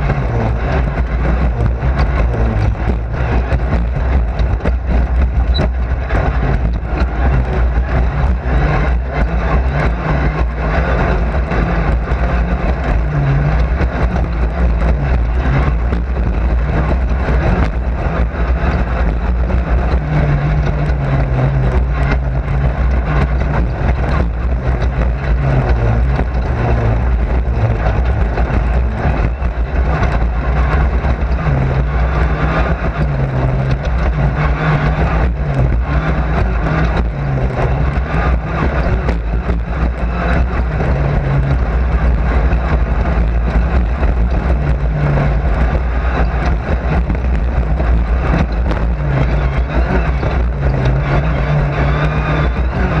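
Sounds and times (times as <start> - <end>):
car rattles and knocks: 0.0 - 53.0
race car engine running hard: 0.0 - 53.0
road and drivetrain noise: 0.0 - 53.0.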